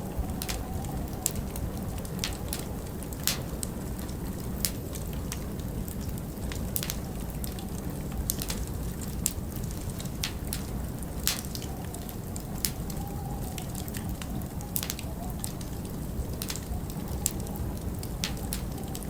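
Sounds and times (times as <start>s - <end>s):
fire crackling and popping: 0.0s - 19.0s
low rumble of flame and wind: 0.0s - 19.0s.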